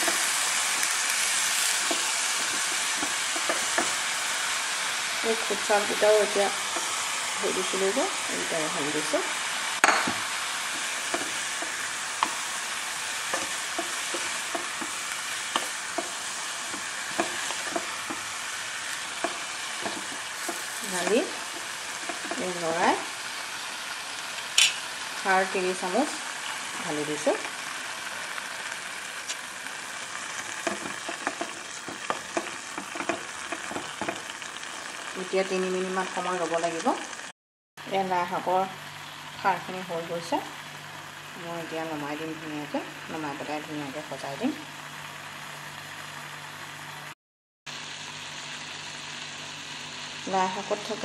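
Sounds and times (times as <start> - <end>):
food sizzling in metal pot: 0.0 - 51.0.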